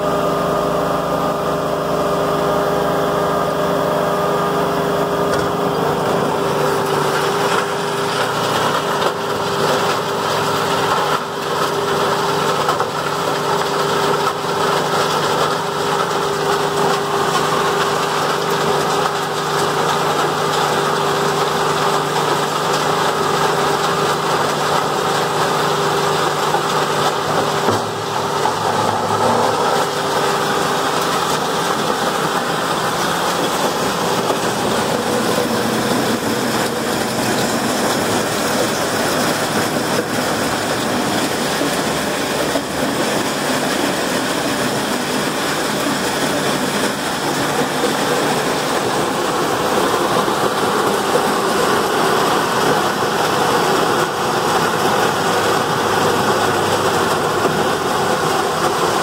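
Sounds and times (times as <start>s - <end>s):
wood grinder running: 0.0s - 59.0s.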